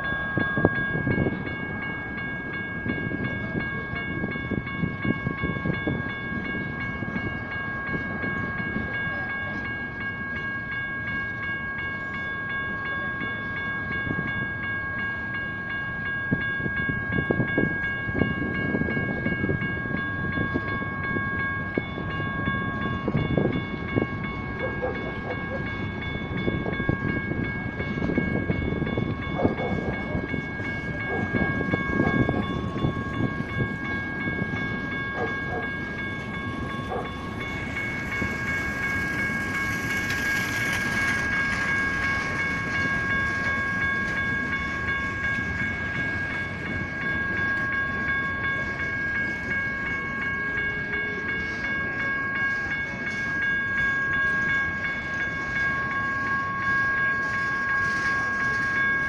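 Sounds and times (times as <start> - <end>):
crossing bells ringing: 0.0 - 59.0.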